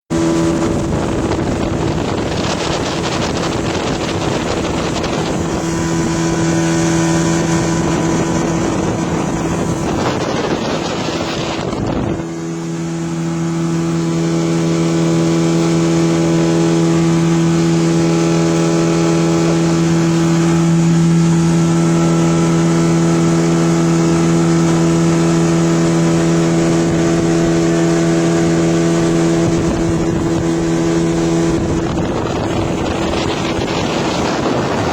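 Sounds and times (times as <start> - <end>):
motorboat engine running: 0.1 - 34.9
rushing wind and water: 0.1 - 34.9.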